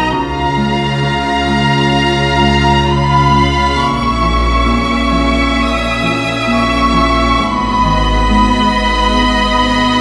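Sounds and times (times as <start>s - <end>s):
slow bowed string music: 0.0s - 10.0s.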